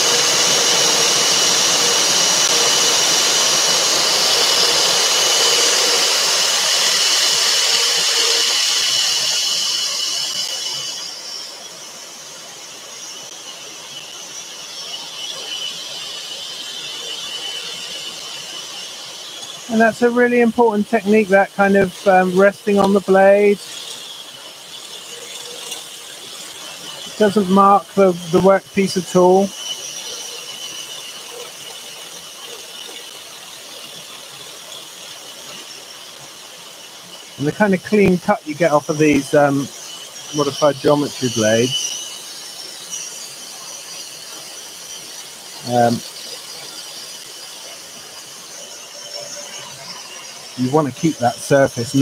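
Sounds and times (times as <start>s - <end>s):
high whine: 0.0s - 52.0s
scroll saw cutting wood: 0.0s - 52.0s.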